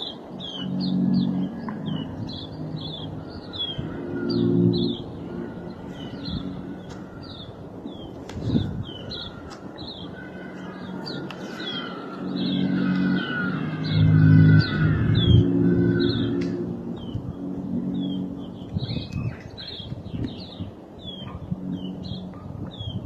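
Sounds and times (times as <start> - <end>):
low hum: 0.0 - 23.0
small birds chirping: 0.0 - 23.0.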